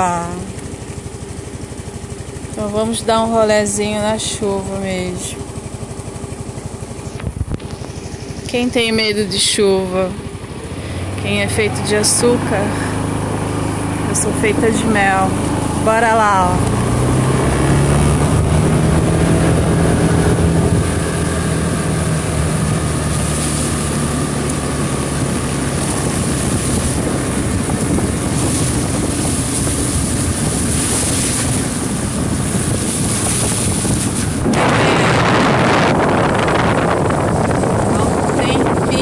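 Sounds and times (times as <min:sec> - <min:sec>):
scooter engine running: 0:00.0 - 0:39.0
wind buffeting microphone: 0:07.0 - 0:39.0.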